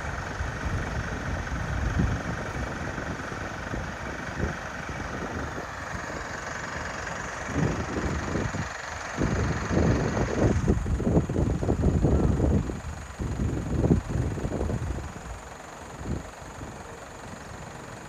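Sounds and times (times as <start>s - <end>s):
fire engine idling: 0.0s - 18.0s.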